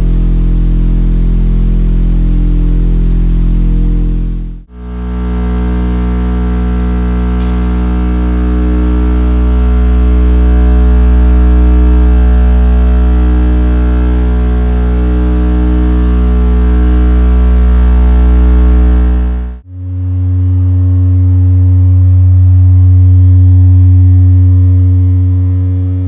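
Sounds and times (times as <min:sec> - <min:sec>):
low pure tone: 0:00.0 - 0:26.0.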